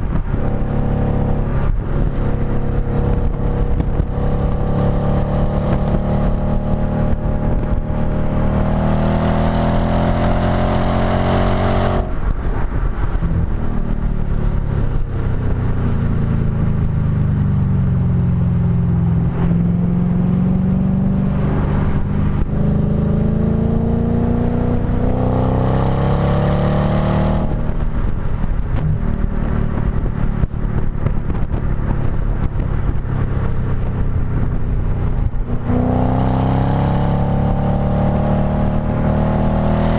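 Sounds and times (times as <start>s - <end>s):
car engine accelerating hard: 0.0s - 15.1s, 18.8s - 39.9s.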